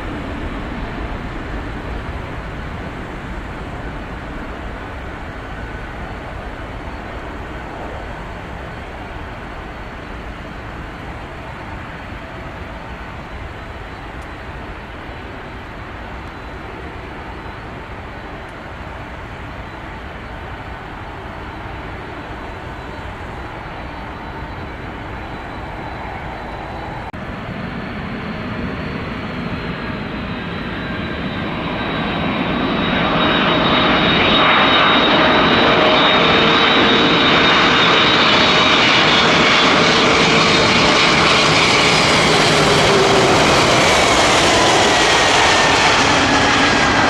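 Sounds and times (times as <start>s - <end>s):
jet engine rushing: 0.0s - 47.0s.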